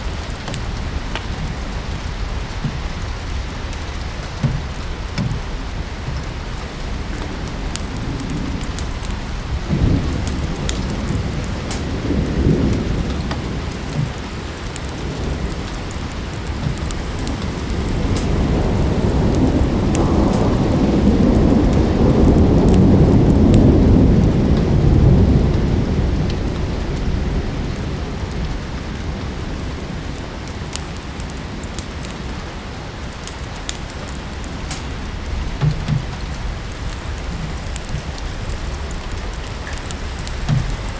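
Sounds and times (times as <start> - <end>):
fireplace crackling: 0.0 - 23.6, 29.6 - 40.9
steady rain: 0.0 - 40.9
thunder rolling: 0.0 - 40.9.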